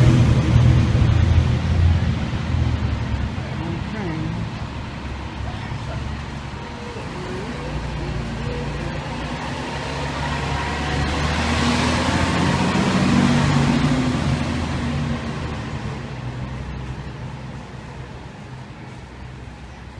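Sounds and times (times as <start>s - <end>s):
fire engine diesel engine passing: 0.0s - 19.9s.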